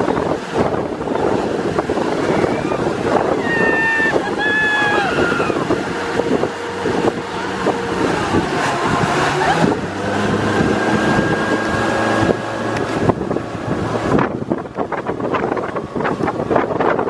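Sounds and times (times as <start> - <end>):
motorboat engine running: 0.0 - 17.0
water noise: 0.0 - 17.0
wind buffeting microphone: 0.0 - 17.0.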